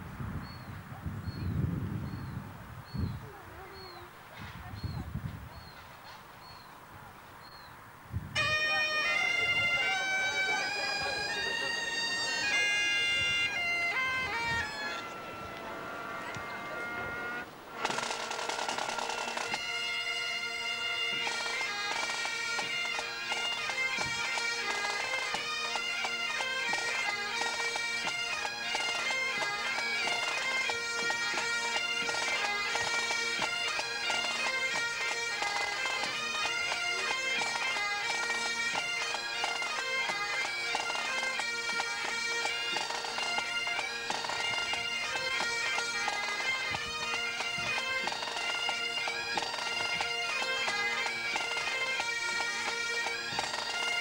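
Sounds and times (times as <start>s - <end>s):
bagpipes playing a tune: 8.3s - 54.0s.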